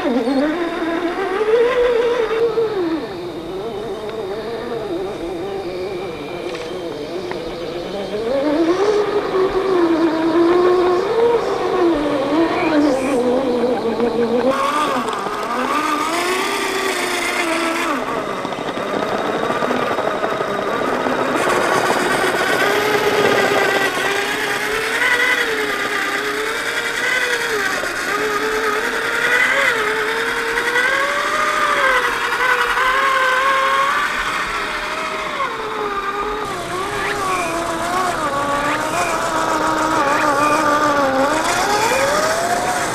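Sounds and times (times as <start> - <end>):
rc truck motor and gear whine: 0.0 - 42.9.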